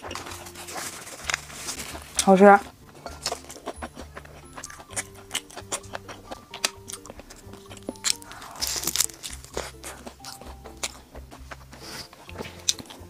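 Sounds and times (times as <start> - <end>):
crunching and chewing food: 0.0 - 13.0
loud crunchy bite: 0.0 - 13.0.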